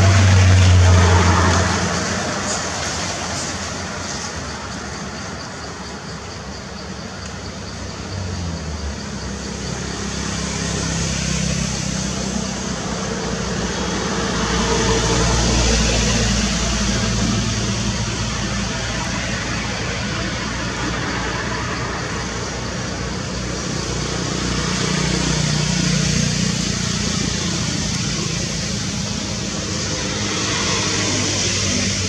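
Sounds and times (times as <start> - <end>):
traffic engine rumble: 0.0 - 32.0.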